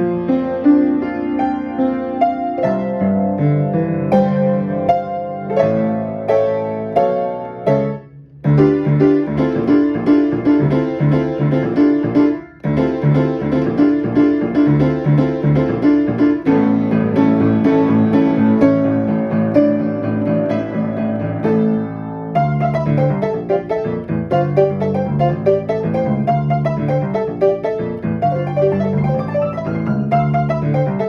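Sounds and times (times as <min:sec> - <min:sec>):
piano playing rhythmic chords: 0:00.0 - 0:31.0.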